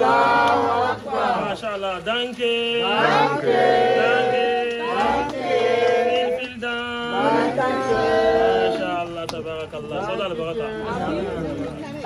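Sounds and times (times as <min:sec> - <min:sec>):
other voices singing: 0:00.0 - 0:11.5.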